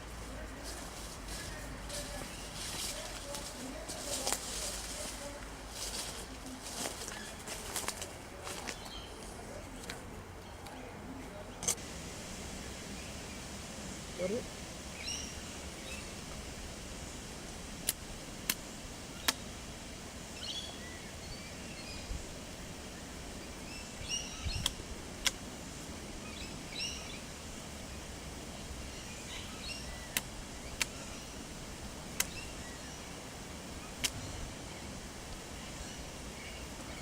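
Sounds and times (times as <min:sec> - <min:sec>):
outdoor background noise: 0:00.0 - 0:37.0
small birds chirping: 0:00.2 - 0:11.8, 0:12.6 - 0:16.6, 0:20.3 - 0:25.4, 0:26.0 - 0:37.0.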